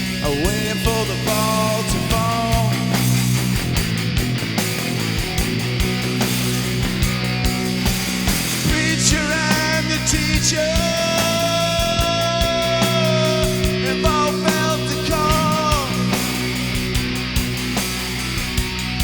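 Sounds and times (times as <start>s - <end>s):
rock music with drums and guitars: 0.0s - 19.0s.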